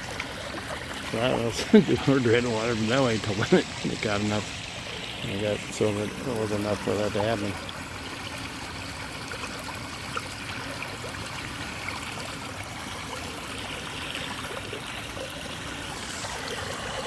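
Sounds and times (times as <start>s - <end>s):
water running into storm drain: 0.0s - 17.0s.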